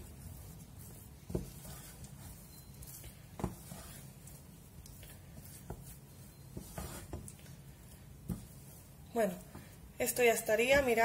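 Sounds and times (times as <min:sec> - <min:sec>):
spatula scraping and squishing dough: 0:00.0 - 0:11.0.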